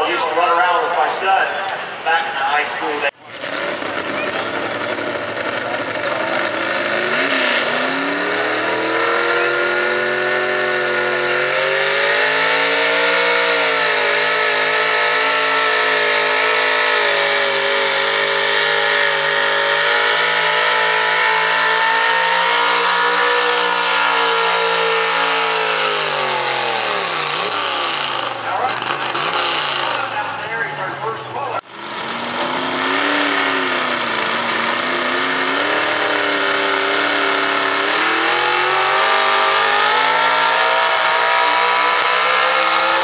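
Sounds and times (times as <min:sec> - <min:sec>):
truck engine revving at full throttle: 0:00.0 - 0:43.0.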